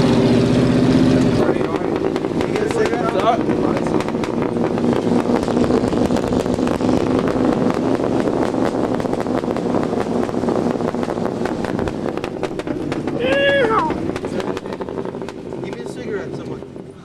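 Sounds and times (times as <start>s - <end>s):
truck engine running: 0.0s - 17.0s
knocks and rattles: 0.9s - 16.7s.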